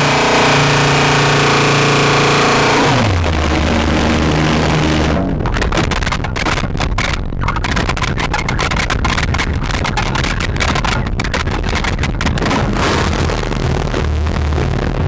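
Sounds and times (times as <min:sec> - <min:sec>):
harsh amplified stuttering noise: 0:00.0 - 0:15.0.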